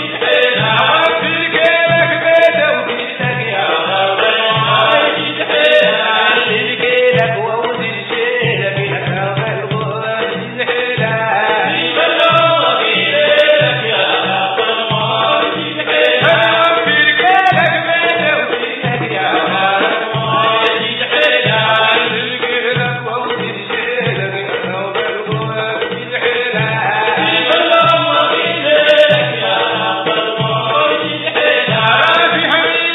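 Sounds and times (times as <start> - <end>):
men singing in chorus: 0.0 - 32.9
steady drum beat: 0.0 - 32.9.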